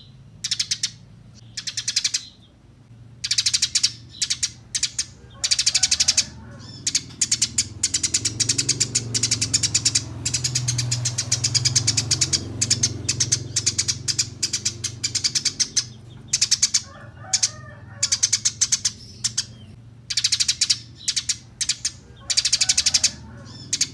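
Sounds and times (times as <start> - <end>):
sparrows chattering: 0.0 - 23.9.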